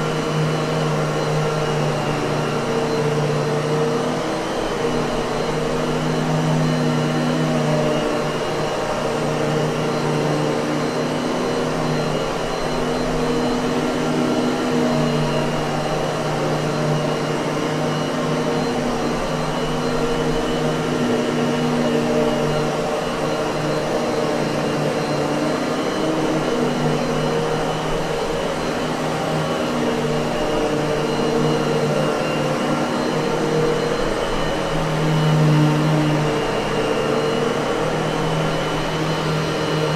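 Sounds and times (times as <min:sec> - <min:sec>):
vacuum cleaner motor whirring: 0:00.0 - 0:39.9.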